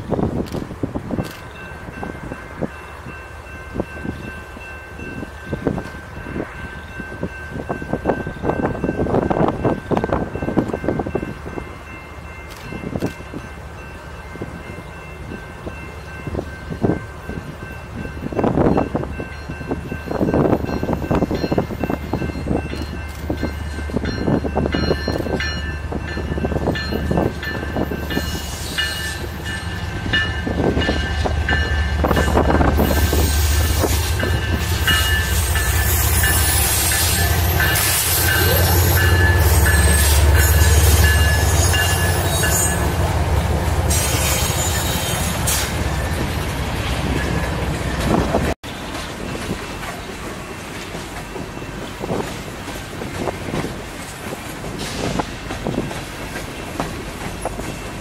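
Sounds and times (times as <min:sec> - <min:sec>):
diesel locomotives rumbling: 0:00.0 - 0:58.0
train cars clacking on rails: 0:00.0 - 0:58.0.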